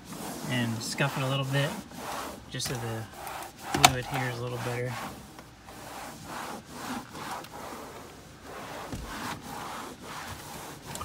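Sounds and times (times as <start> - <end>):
cloth rag rubbing dashboard: 0.0 - 11.0.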